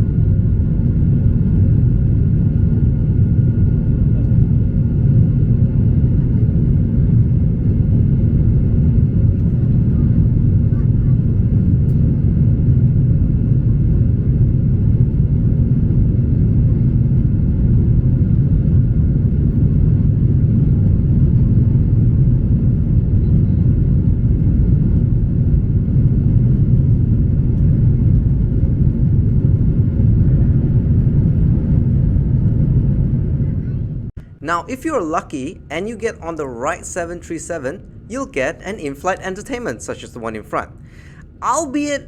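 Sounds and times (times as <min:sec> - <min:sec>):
jet engine cabin roar: 0:00.0 - 0:42.0.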